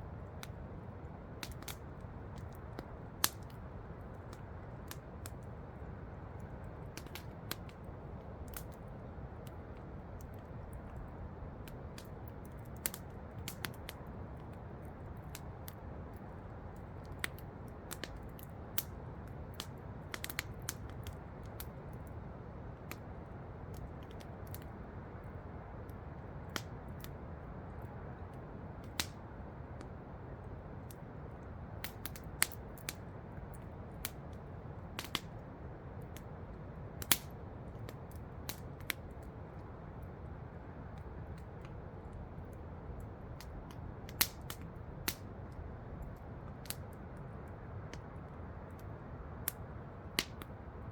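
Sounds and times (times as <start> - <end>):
campfire crackling and popping: 0.0 - 50.8.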